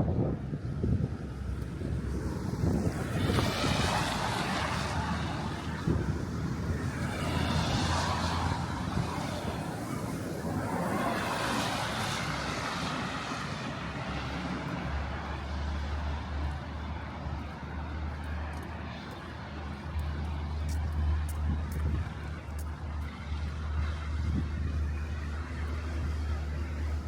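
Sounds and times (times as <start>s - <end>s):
strong wind gusting: 0.0s - 27.0s
wind rumble on microphone: 0.0s - 27.0s.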